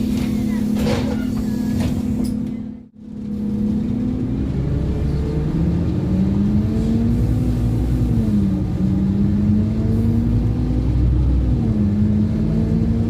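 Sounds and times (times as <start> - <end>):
bus diesel engine accelerating: 0.0 - 13.0.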